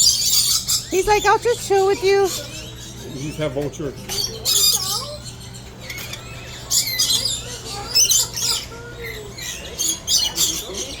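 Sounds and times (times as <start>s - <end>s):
birds screeching and squawking: 0.0s - 11.0s.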